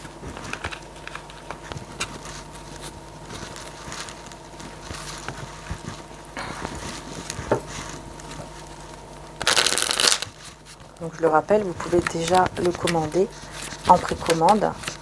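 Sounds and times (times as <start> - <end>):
cards being handled: 0.0 - 15.0
faint steady hum: 0.0 - 15.0.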